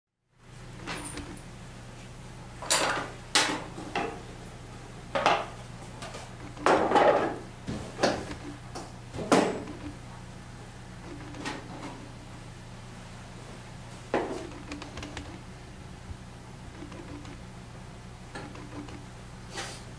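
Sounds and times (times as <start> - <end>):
steady low hum: 0.3 - 19.9.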